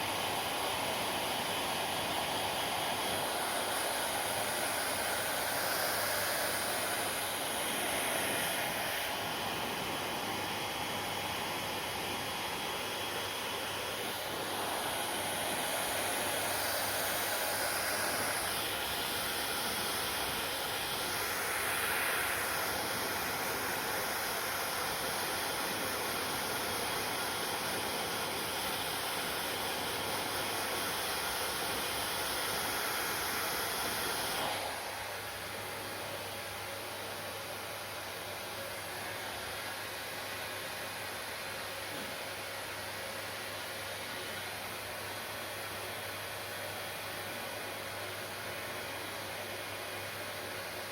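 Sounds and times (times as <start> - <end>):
hair dryer blowing: 0.0 - 50.9.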